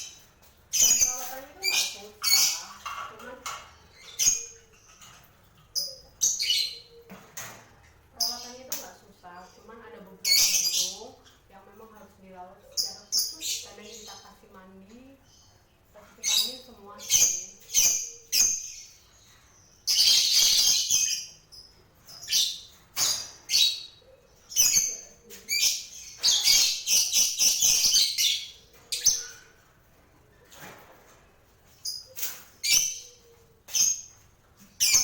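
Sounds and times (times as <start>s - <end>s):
lovebirds chirping and chattering: 0.0s - 35.0s.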